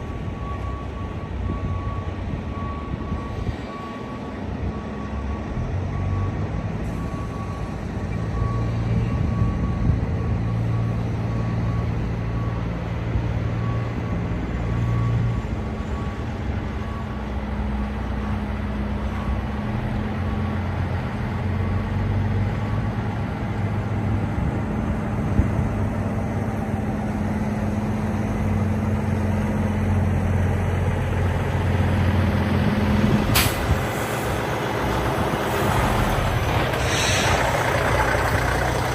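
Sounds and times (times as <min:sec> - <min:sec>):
diesel truck engines droning: 0:00.0 - 0:38.9.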